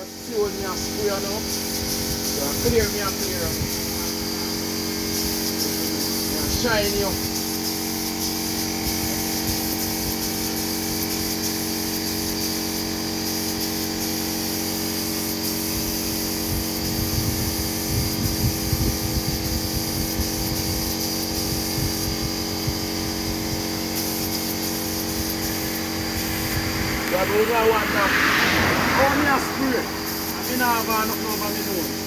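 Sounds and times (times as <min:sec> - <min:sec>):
spray gun hissing: 0:00.0 - 0:32.0.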